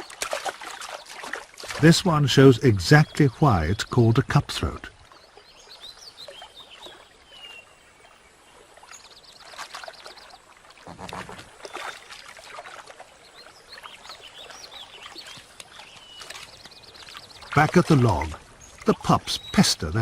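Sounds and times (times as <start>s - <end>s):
water splashing and dripping: 0.0s - 7.2s, 8.5s - 20.0s
small birds chirping: 0.0s - 20.0s.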